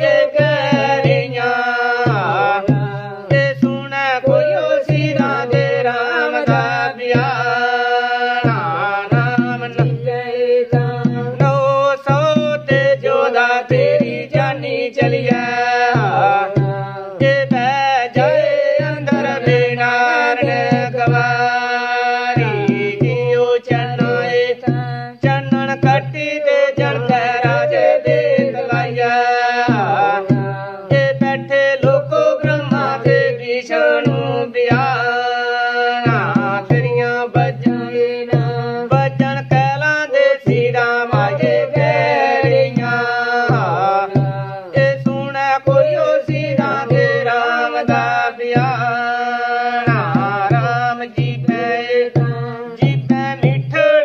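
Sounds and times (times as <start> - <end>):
dhol drum beat: 0.0 - 54.0
man and woman singing folk song: 0.0 - 54.0.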